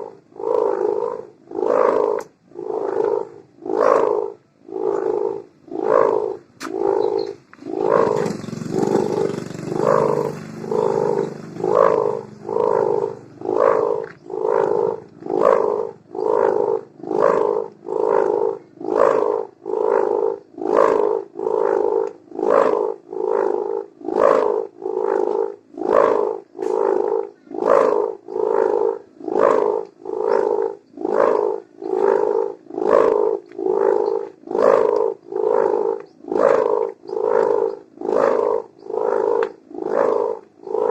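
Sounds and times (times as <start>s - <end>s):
kite hummer buzzing drone: 0.0s - 40.9s.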